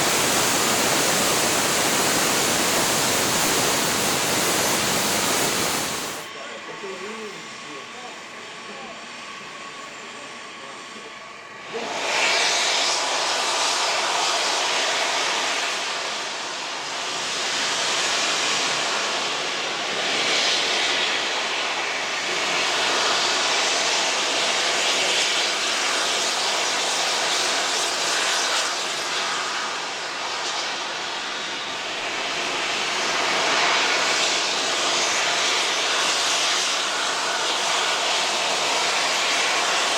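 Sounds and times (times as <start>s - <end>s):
steam locomotive hissing steam: 0.0s - 7.6s, 11.6s - 39.9s.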